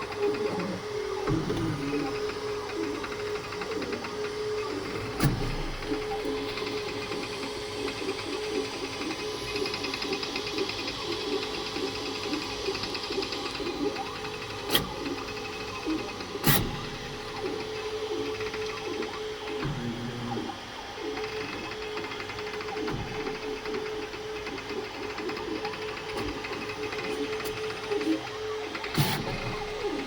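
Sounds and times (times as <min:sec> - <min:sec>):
printer stepper motors whirring: 0:00.0 - 0:30.0.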